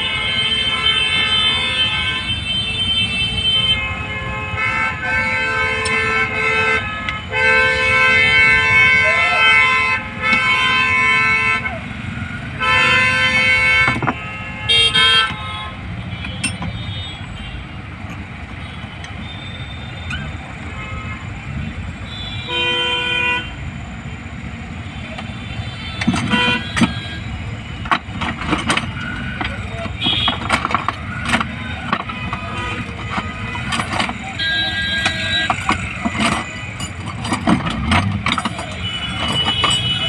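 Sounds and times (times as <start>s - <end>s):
vehicle horn blasts: 0.0s - 17.7s, 18.6s - 23.6s, 25.0s - 40.0s
traffic noise: 0.0s - 40.0s.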